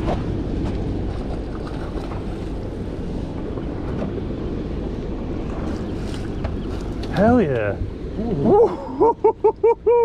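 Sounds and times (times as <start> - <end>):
water sloshing against boat hull: 0.0 - 8.2
wind buffeting microphone: 0.0 - 9.1.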